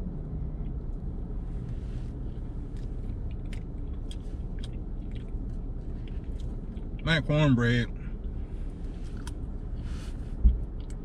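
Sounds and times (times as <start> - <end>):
truck cab low rumble: 0.0 - 11.0.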